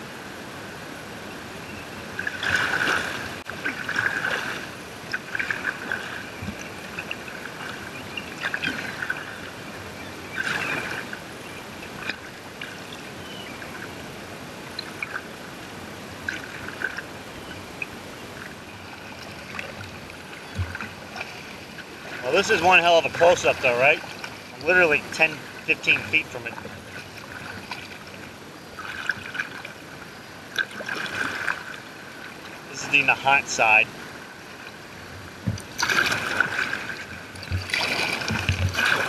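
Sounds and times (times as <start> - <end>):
paddle splashes: 2.1 - 39.0
seawater sloshing against kayak hull: 2.2 - 14.2, 17.8 - 39.0.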